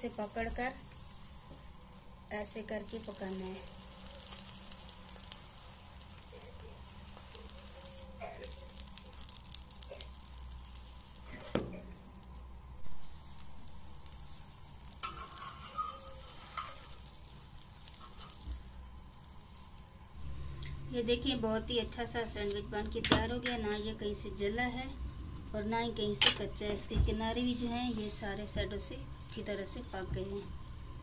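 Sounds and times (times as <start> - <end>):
bread sizzling in oil: 0.0 - 31.0.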